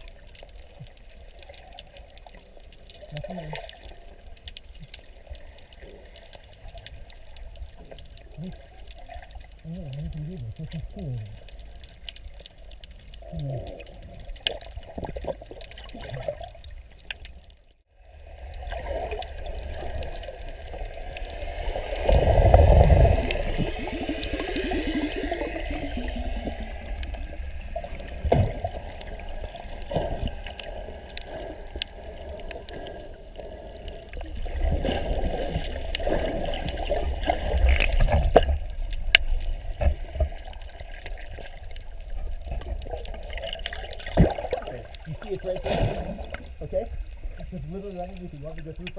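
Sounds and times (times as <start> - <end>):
low gurgling rush: 0.0 - 48.9
water sloshing and bubbling underwater: 0.0 - 48.9.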